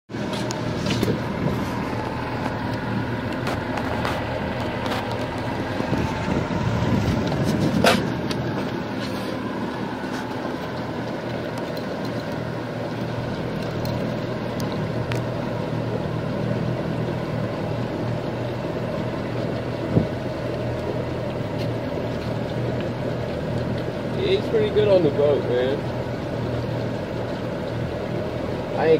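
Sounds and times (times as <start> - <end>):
outboard motor running: 0.1 - 28.9
wind and water noise: 0.1 - 28.9.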